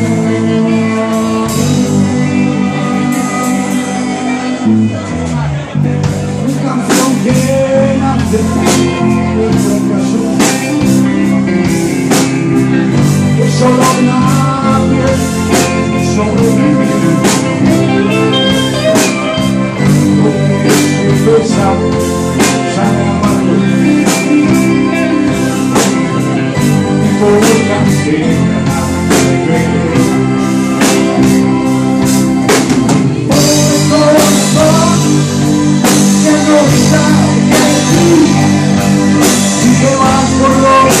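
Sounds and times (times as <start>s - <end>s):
bass guitar: 0.0s - 41.0s
drum kit beat: 0.0s - 41.0s
electric guitars: 0.0s - 41.0s
man singing: 0.0s - 41.0s.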